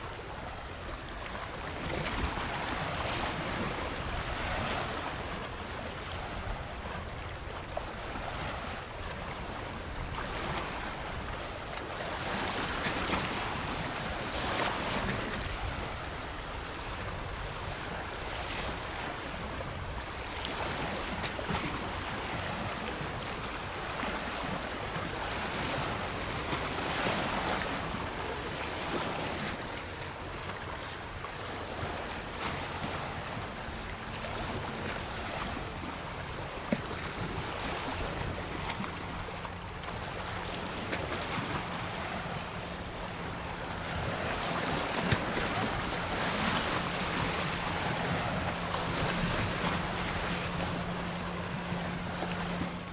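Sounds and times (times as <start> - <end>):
ocean waves washing onto beach: 0.0 - 52.9.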